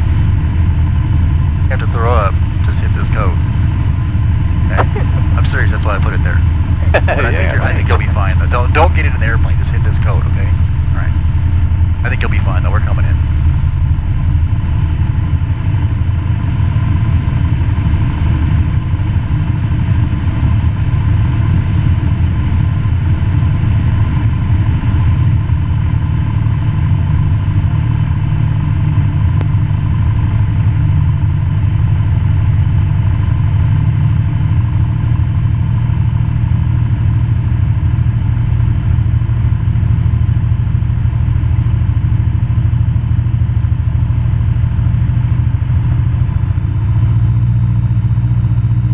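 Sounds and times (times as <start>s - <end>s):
airplane engine and propeller droning: 0.0s - 48.9s.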